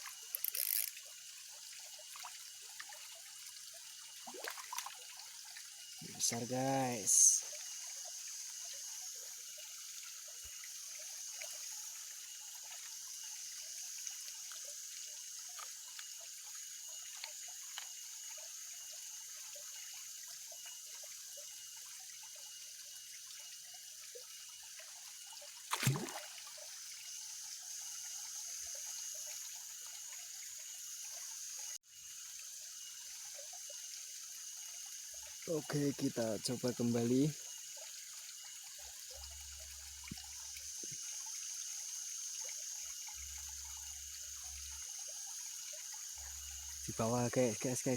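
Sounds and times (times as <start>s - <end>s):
water trickling with splashes: 0.0s - 47.9s.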